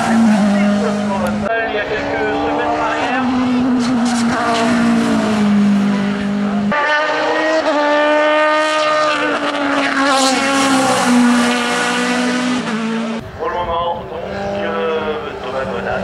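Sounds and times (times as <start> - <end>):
race car engines at high revs: 0.0 - 13.2, 14.0 - 16.0.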